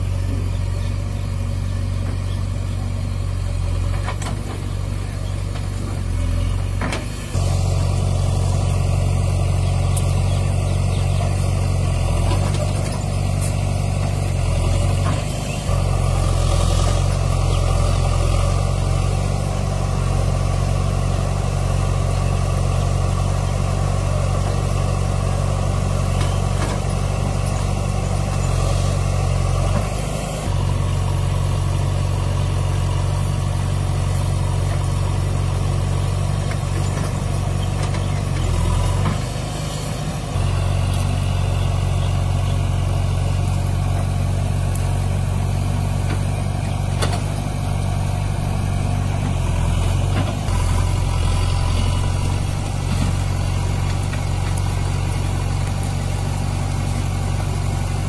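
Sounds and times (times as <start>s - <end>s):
backhoe loader diesel running: 0.0s - 58.0s
tractor diesel engine idling: 0.0s - 58.0s.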